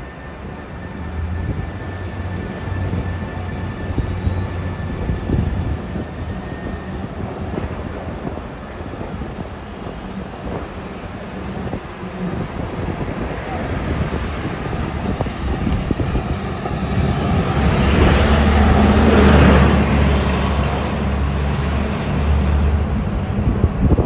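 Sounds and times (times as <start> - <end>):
road rumble: 0.0 - 24.0
rushing noise: 0.0 - 24.0.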